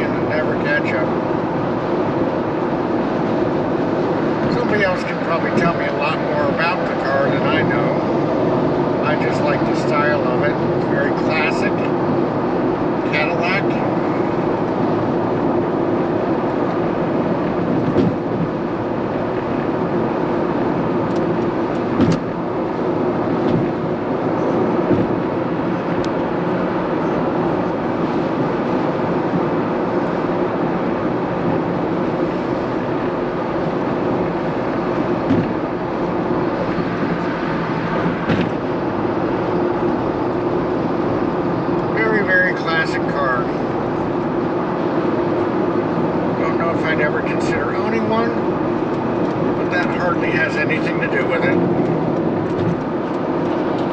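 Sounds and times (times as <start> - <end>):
car driving on road: 0.0 - 53.9.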